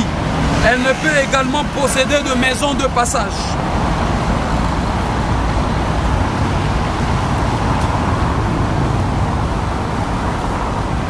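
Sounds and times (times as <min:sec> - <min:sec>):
road traffic passing cars: 0:00.0 - 0:11.0.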